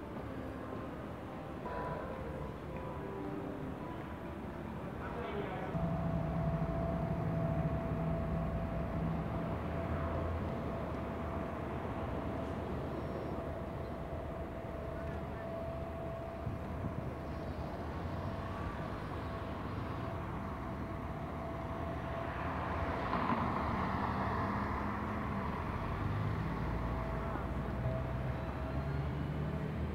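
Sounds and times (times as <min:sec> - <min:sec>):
road traffic noise: 0:00.0 - 0:29.9
vehicle passing: 0:05.8 - 0:29.9.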